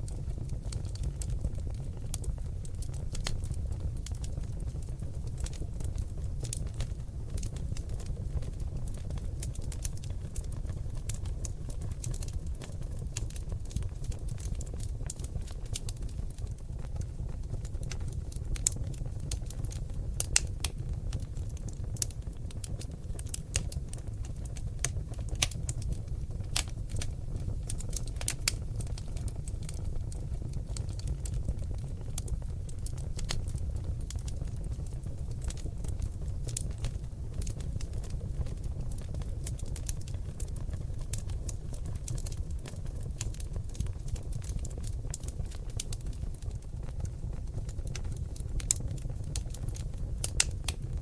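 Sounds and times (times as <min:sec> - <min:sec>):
logs crackling and popping: 0:00.0 - 0:51.0
low rumble of flames: 0:00.0 - 0:51.0.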